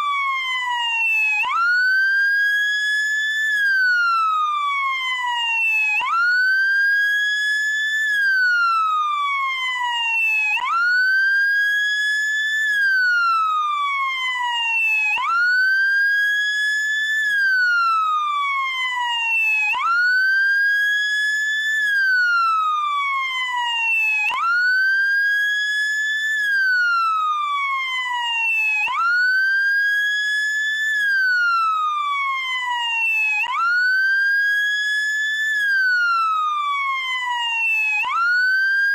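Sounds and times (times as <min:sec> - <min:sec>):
ambulance wail siren: 0:00.0 - 0:38.9.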